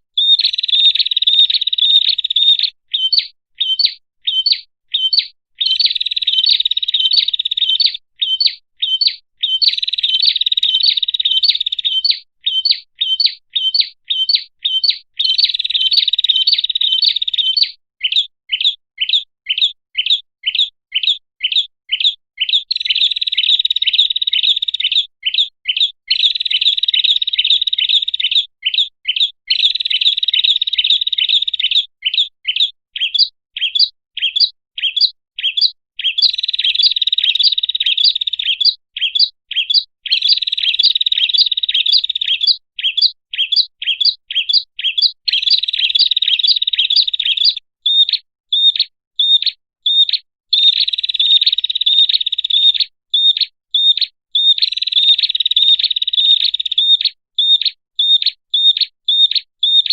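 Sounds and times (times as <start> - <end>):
sharp bird chirps: 0.1 - 59.9
bird chattering trill: 0.2 - 59.9.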